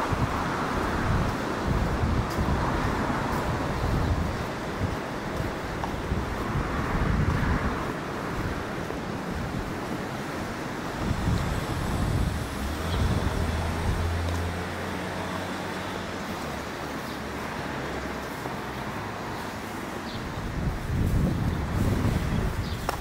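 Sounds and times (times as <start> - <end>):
distant traffic: 0.0 - 23.0
wind gusting on microphone: 0.0 - 23.0.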